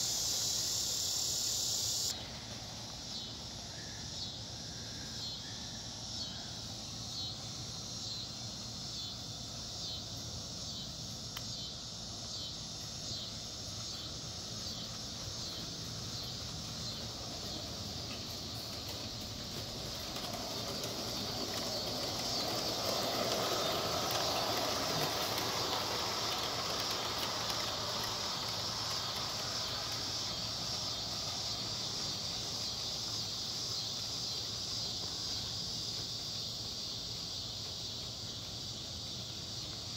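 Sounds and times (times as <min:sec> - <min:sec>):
insect chirring: 0:00.0 - 0:39.9
model steam train rolling past: 0:00.0 - 0:39.9.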